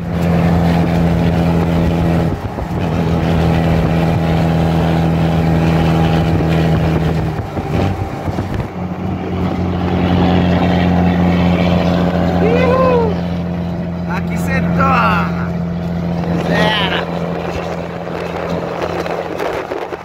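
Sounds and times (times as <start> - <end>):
van engine and road noise: 0.0 - 20.0.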